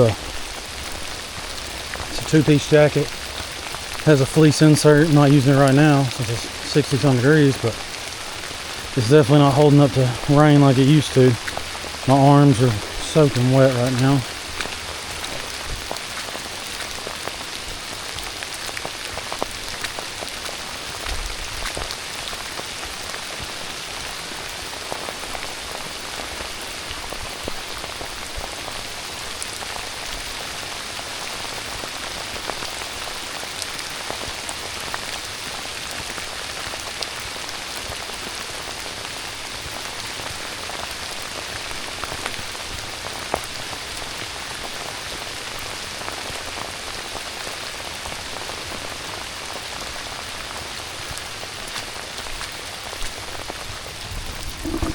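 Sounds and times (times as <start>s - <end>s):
heavy rain hissing: 0.0s - 54.9s
raindrops ticking close by: 0.0s - 54.9s.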